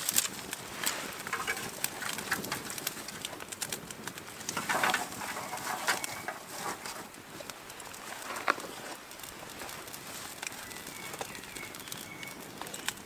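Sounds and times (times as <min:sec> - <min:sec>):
dry twigs rustling and snapping: 0:00.0 - 0:13.0
fire crackling: 0:00.0 - 0:13.0.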